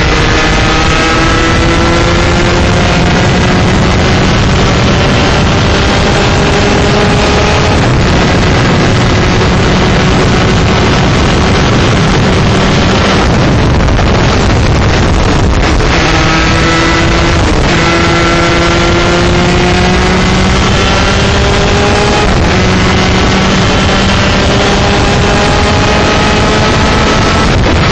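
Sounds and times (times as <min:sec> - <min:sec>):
kart engine running at high revs: 0:00.0 - 0:27.9
wind noise on microphone: 0:00.0 - 0:27.9.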